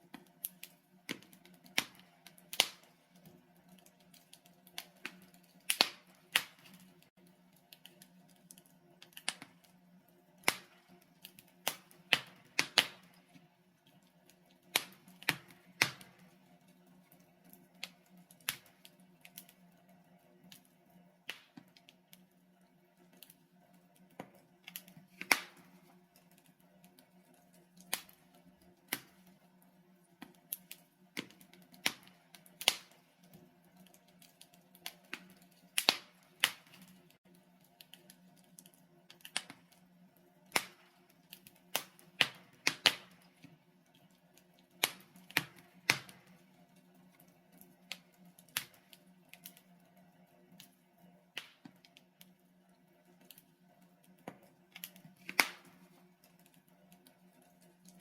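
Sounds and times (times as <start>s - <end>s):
logs crackling in fireplace: 0.0s - 58.0s.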